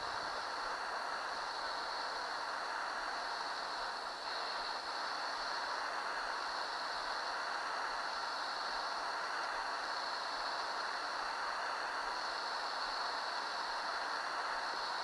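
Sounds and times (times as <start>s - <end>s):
gas torch flame hissing: 0.0s - 15.0s.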